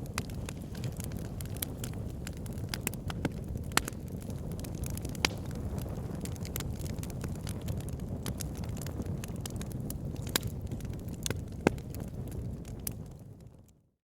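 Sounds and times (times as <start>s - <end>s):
wood crackling and popping: 0.0s - 13.8s
fire rumbling: 0.0s - 13.9s.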